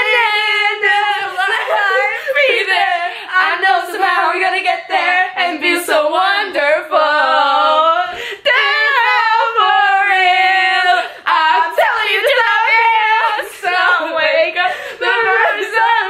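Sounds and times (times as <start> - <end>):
girls singing unaccompanied: 0.0 - 16.0.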